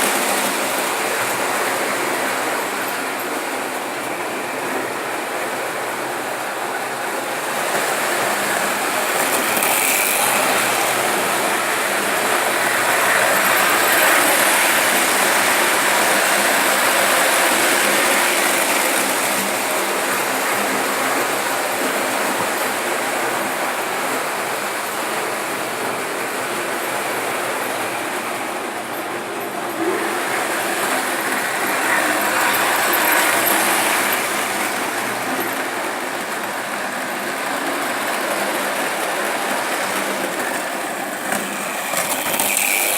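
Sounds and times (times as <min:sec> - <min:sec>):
model trains whirring on track: 0:00.0 - 0:42.9.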